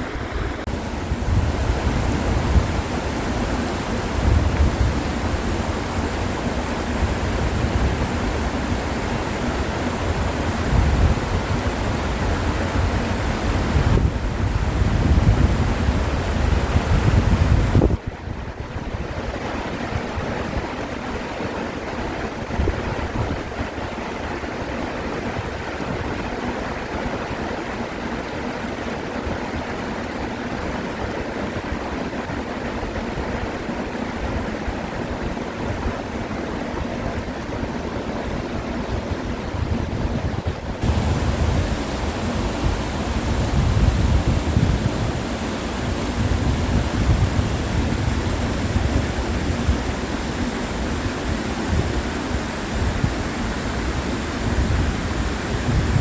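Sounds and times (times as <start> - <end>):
stream rushing over rocks: 0.0 - 18.0, 18.6 - 56.0.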